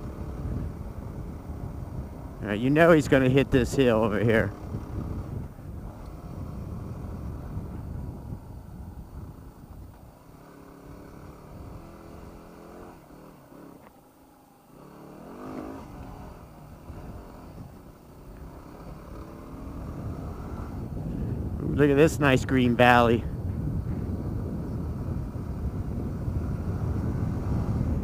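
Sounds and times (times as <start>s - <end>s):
low wind rumble: 0.0s - 28.0s
motorcycle engine running: 0.0s - 28.0s.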